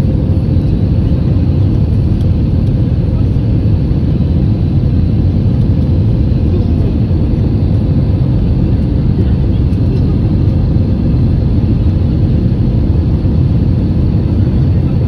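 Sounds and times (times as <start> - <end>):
jet engines from cabin: 0.0 - 15.0.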